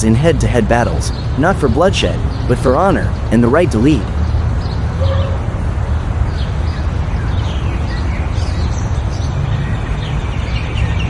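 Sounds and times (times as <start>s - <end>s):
steady low rumble: 0.0s - 9.1s
birds chirping: 0.0s - 11.0s.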